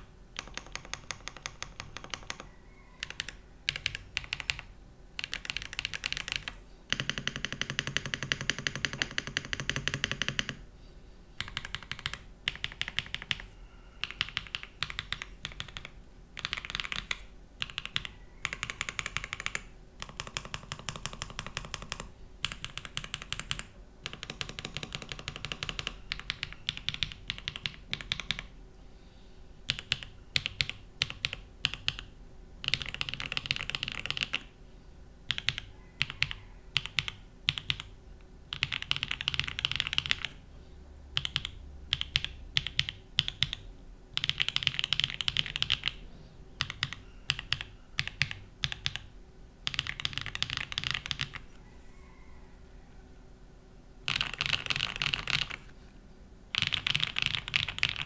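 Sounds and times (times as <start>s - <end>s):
mechanical keyboard typing: 0.0s - 10.6s, 11.4s - 28.6s, 29.7s - 34.5s, 35.3s - 37.9s, 38.5s - 40.4s, 41.1s - 46.0s, 46.6s - 51.5s, 54.1s - 55.7s, 56.5s - 58.0s.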